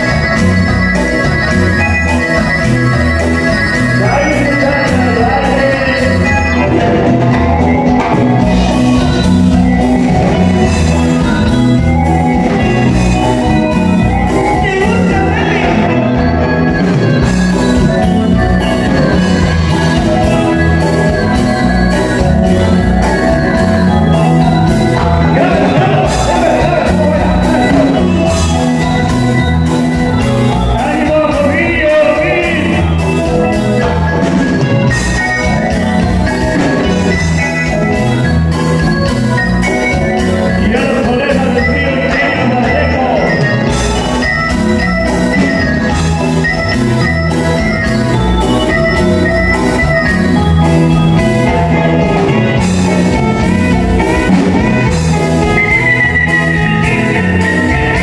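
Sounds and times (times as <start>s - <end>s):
bass guitar: 0.0s - 58.0s
drum kit: 0.0s - 58.0s
electric guitars: 0.0s - 58.0s
live band playing: 0.0s - 58.0s
wavering high melody: 0.0s - 58.0s.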